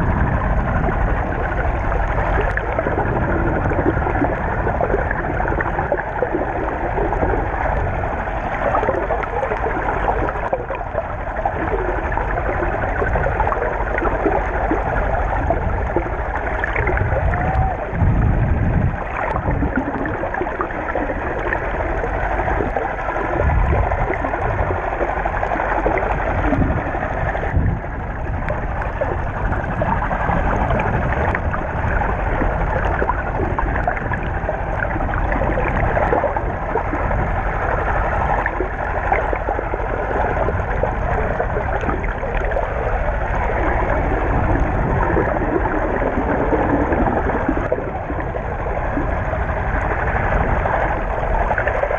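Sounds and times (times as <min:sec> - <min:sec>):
deep water surges: 0:00.0 - 0:51.9
muffled underwater rushing water: 0:00.0 - 0:51.9.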